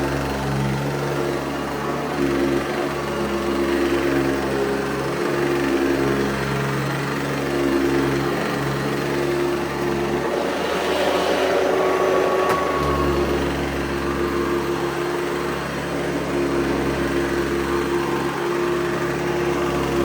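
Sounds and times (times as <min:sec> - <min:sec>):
upright vacuum running: 0:00.0 - 0:20.0.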